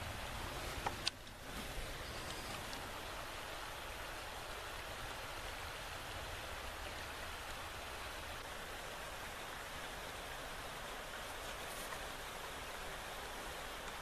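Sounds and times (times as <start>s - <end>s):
stream running over stones: 0.0s - 14.0s.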